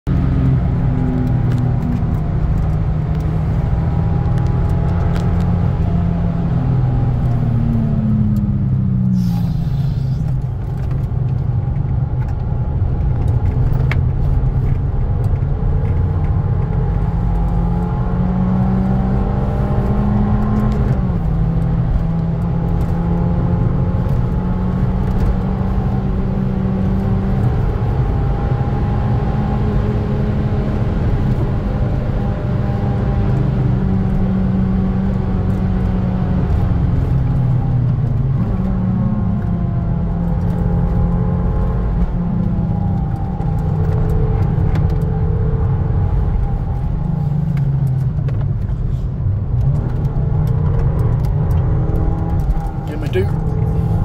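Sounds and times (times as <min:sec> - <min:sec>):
road and tyre rumble: 0:00.0 - 0:54.0
car engine revving in cabin: 0:00.1 - 0:54.0.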